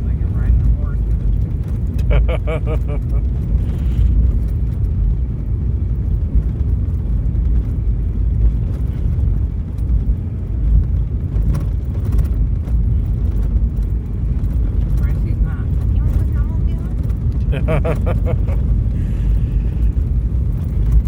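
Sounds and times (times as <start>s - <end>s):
engine and tyres rumbling on snow: 0.0s - 21.0s.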